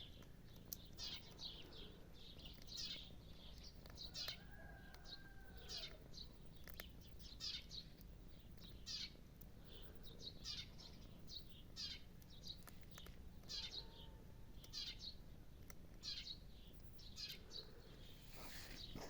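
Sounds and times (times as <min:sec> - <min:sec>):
faint bird chirping: 0:00.0 - 0:19.0
low background hum: 0:00.0 - 0:19.0.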